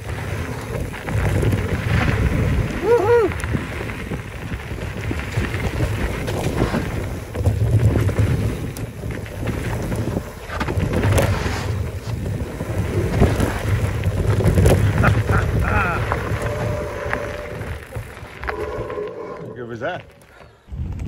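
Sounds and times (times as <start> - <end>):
tyres rattling on loose stones: 0.0 - 18.9
wind buffeting microphone: 0.0 - 21.0.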